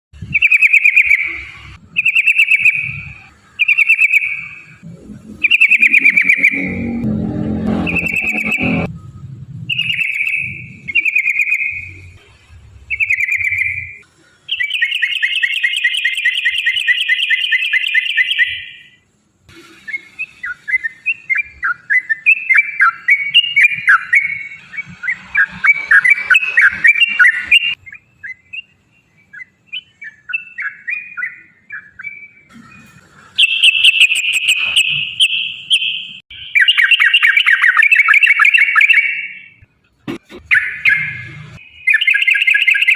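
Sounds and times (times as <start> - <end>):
bulbul singing trills: 0.2 - 7.0, 9.6 - 12.1, 12.9 - 19.0, 19.9 - 32.8, 33.4 - 39.6.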